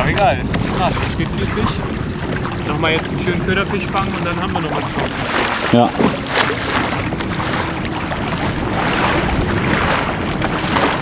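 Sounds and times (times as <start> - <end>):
sea water washing: 0.0 - 11.0
wind buffeting microphone: 0.0 - 11.0.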